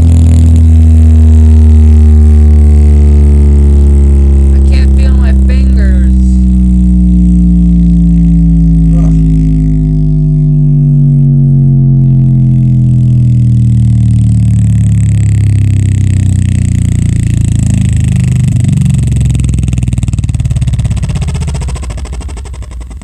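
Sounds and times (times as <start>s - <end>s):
bass-boosted electronic music: 0.0s - 23.0s.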